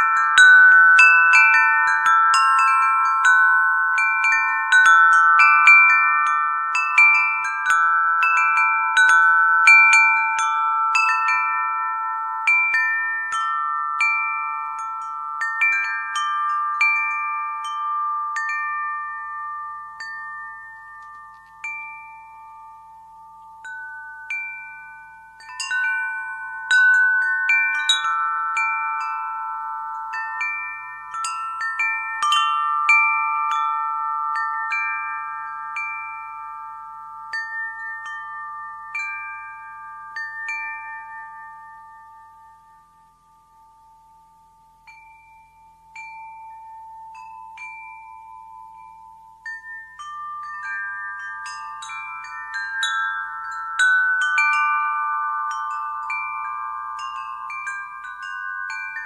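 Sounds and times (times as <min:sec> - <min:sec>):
wind chime ringing: 0:00.0 - 0:59.0.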